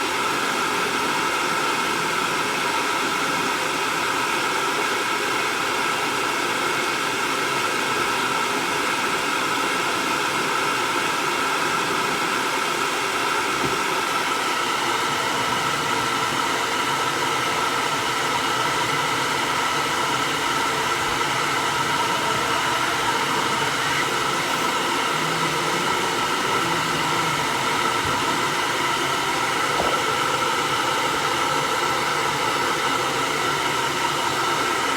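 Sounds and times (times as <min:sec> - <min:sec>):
hair dryer blowing air: 0:00.0 - 0:34.9
hair dryer motor whine: 0:00.0 - 0:34.9.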